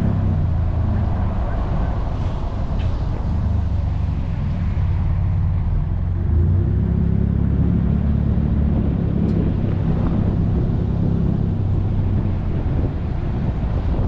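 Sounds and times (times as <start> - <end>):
loud low mechanical rumble: 0.0 - 14.0.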